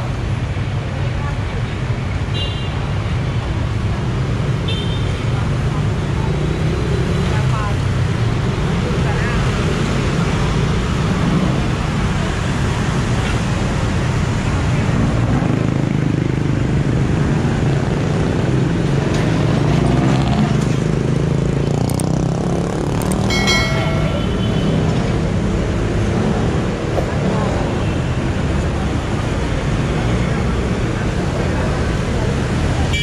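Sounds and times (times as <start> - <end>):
motorcycles and cars passing: 0.0 - 33.0.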